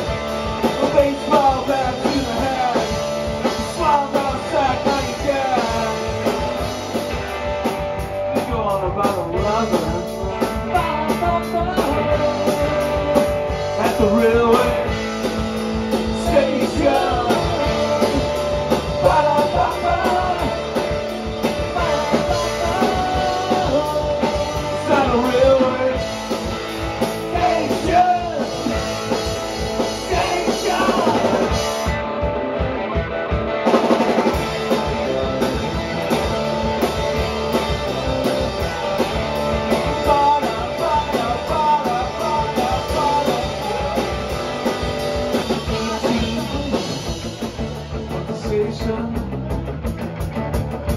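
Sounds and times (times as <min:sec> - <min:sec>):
drum kit: 0:00.0 - 0:50.9
electric bass: 0:00.0 - 0:50.9
electric guitar: 0:00.0 - 0:50.9.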